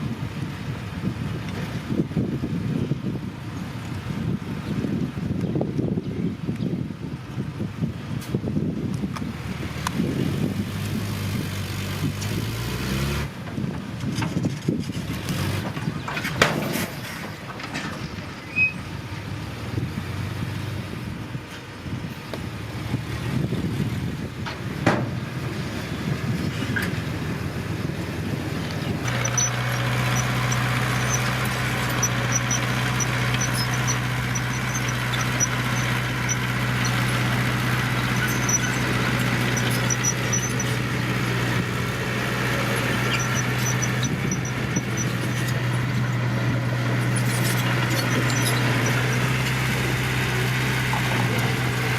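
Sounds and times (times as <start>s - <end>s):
heavy machinery diesel engines: 0.0s - 51.9s.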